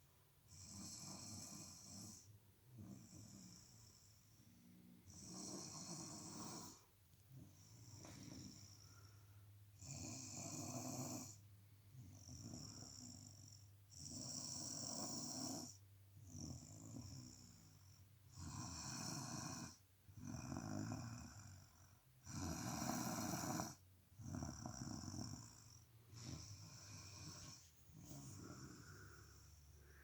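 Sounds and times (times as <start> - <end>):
person snoring: 0.5 - 4.1, 5.1 - 6.8, 9.8 - 11.4, 12.0 - 30.0.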